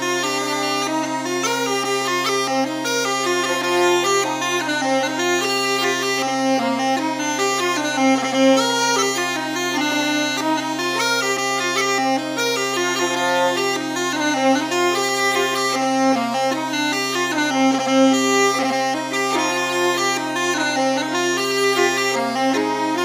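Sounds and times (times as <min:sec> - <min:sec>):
fiddle playing: 0:00.0 - 0:23.0
smallpipes with drone: 0:00.0 - 0:23.0.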